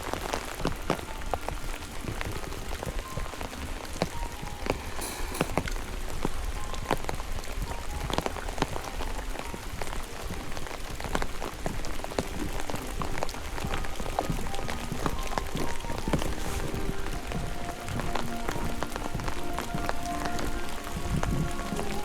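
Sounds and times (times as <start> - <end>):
raindrops ticking: 0.0 - 22.0
steady rain: 0.0 - 22.0.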